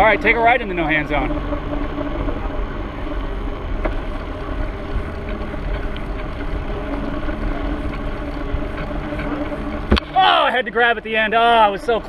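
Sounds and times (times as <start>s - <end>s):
faint steady hum: 0.0s - 12.0s
road noise: 0.0s - 12.0s.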